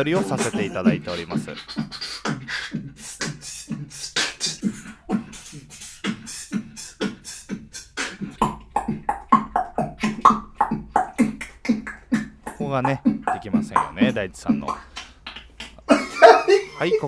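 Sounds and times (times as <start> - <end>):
human beatboxing: 0.0 - 16.5
pitched vocal tones: 0.0 - 17.0.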